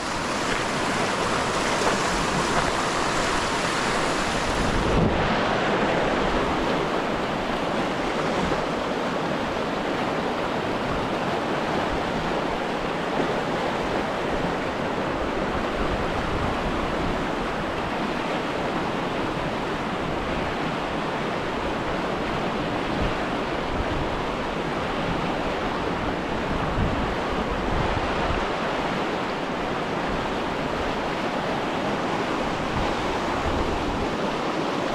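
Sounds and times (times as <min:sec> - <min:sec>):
wind buffeting microphone: 0:00.0 - 0:18.2, 0:19.2 - 0:29.0, 0:29.6 - 0:34.9
surf: 0:00.0 - 0:34.9
wind: 0:00.0 - 0:34.9.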